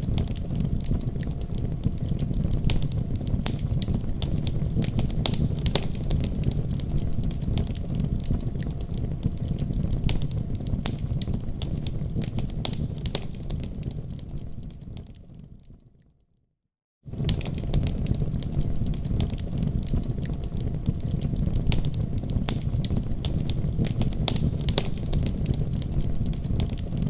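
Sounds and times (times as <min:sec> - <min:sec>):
wood fire crackling: 0:00.0 - 0:15.9, 0:17.1 - 0:27.0
sharp pops and snaps of fire: 0:00.0 - 0:16.1, 0:17.1 - 0:27.0.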